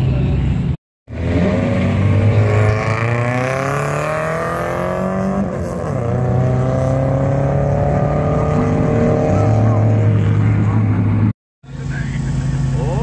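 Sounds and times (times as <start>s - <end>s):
rally car engine revving: 1.1s - 13.0s.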